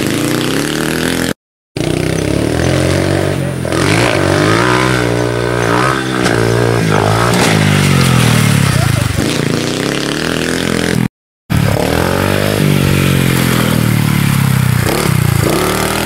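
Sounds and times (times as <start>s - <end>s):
minibike engine revving: 0.0s - 16.0s.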